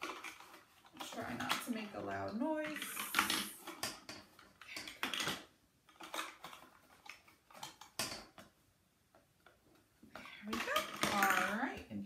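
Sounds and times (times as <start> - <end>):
plastic toy blocks clattering: 0.0 - 8.6, 10.2 - 11.9.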